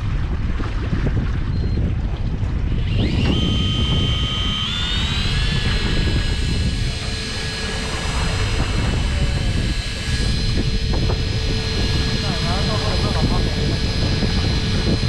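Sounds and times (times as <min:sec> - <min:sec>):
boat noise: 0:00.0 - 0:15.0
wind: 0:00.0 - 0:15.0
fishing reel motor whining: 0:00.8 - 0:15.0.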